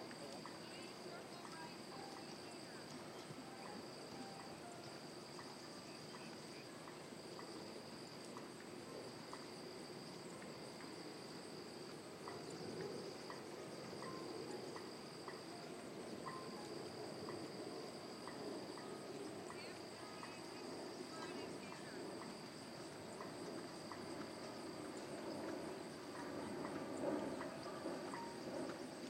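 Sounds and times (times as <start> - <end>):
faint outdoor background noise: 0.0 - 29.0
insect chorus droning: 0.0 - 29.0.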